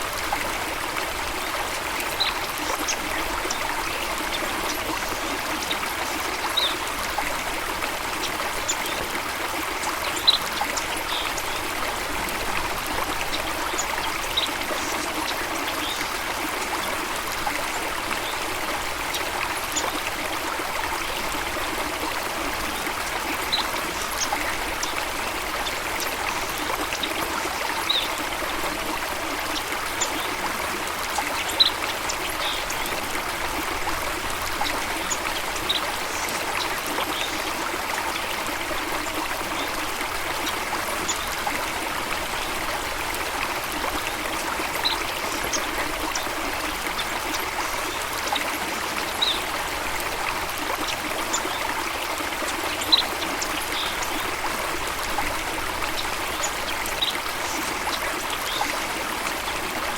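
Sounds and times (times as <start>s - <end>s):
stream of water trickling: 0.0s - 59.9s.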